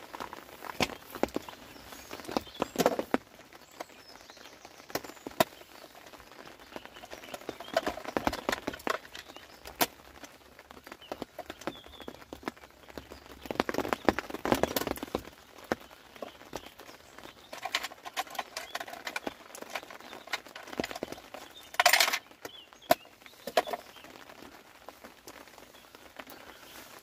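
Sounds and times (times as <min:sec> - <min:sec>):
tackle clicks and taps: 0:00.0 - 0:04.0, 0:06.7 - 0:25.5.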